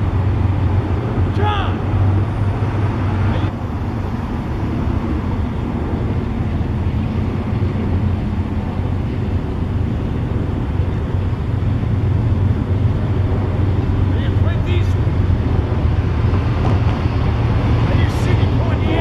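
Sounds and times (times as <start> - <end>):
large engine low rumble: 0.0 - 19.0.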